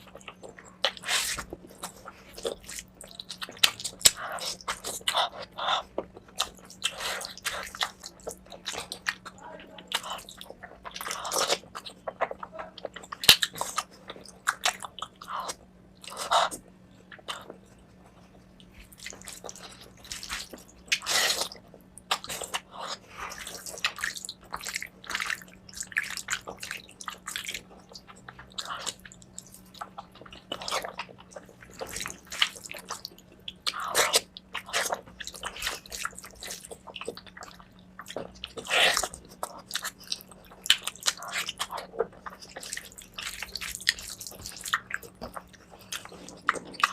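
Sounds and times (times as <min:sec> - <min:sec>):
wet chewing and smacking: 0:00.0 - 0:46.9.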